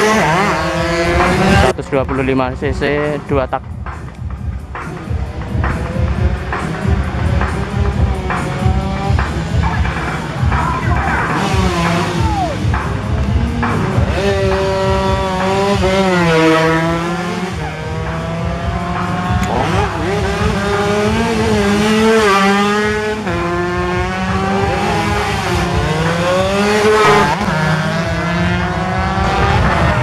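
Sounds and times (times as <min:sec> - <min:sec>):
racing motorcycles revving: 0:00.0 - 0:30.0.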